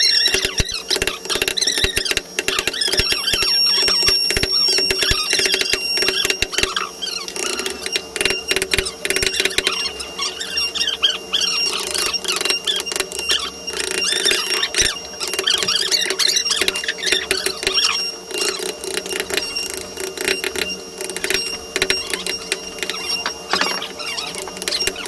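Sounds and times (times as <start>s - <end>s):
high wavering squeaks: 0.0s - 25.0s
chisels scraping and tapping wood: 0.3s - 9.8s, 11.8s - 25.0s.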